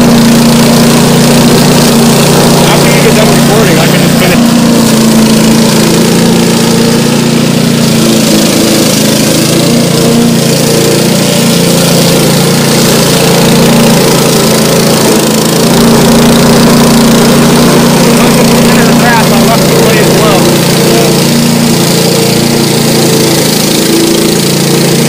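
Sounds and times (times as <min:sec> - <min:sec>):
lawn mower cutting grass: 0:00.0 - 0:25.0.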